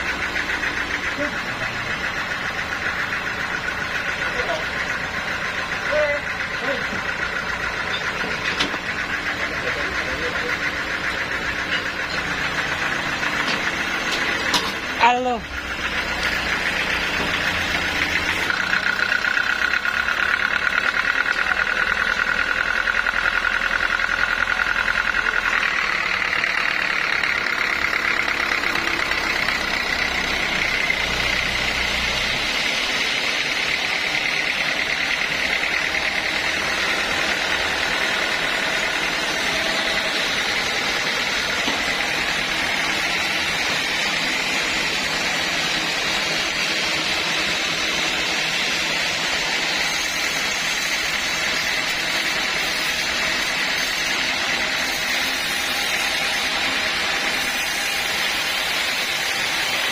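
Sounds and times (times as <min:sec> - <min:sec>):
sawmill saw whine: 0:00.0 - 0:59.9.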